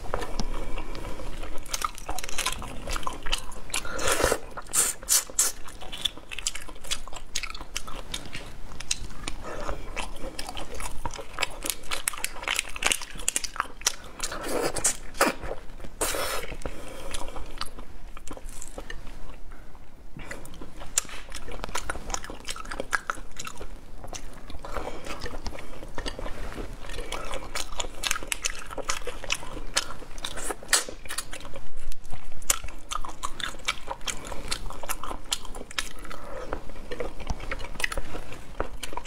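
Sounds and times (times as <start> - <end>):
wet chewing: 0.0 - 19.4, 20.2 - 39.0.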